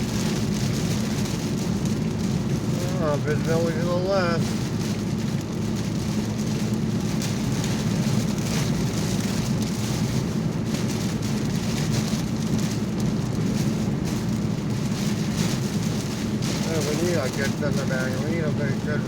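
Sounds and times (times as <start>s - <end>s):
heavy rain on car roof: 0.0s - 19.0s
road and engine rumble: 0.0s - 19.0s.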